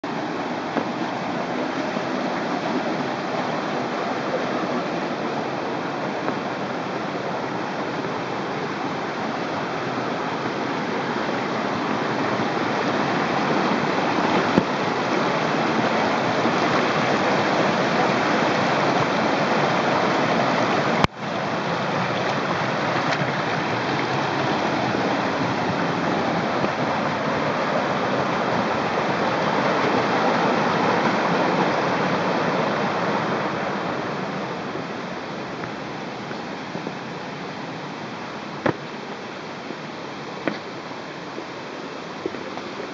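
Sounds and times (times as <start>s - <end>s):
mountain stream rushing: 0.0s - 42.9s.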